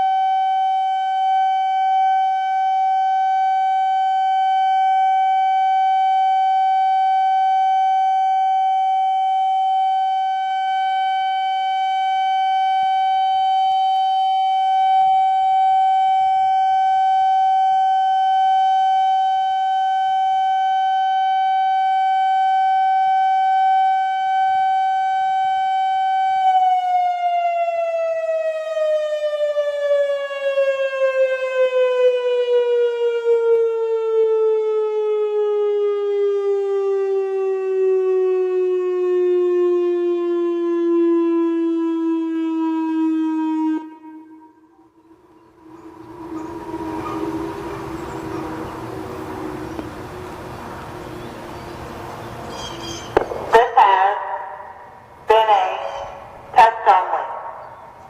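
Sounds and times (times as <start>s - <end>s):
outdoor warning siren tone: 0.0s - 58.0s.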